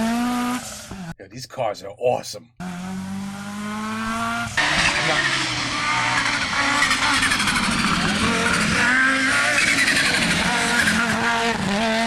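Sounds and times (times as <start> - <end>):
rally car engine revving: 0.0 - 1.1, 2.6 - 12.0.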